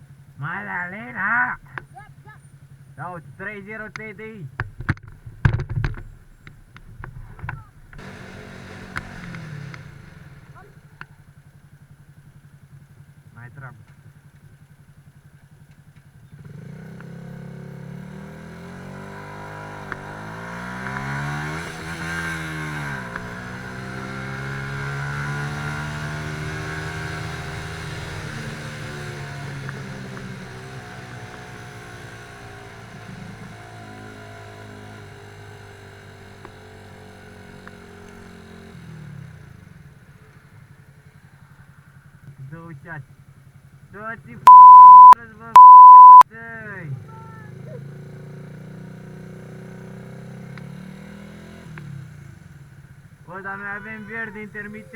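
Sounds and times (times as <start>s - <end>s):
motorcycle engine revving: 4.5s - 46.2s, 46.8s - 54.9s.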